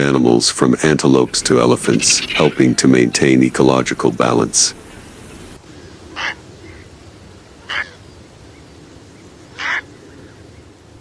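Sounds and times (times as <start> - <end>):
harsh bird calls: 0.8 - 11.0.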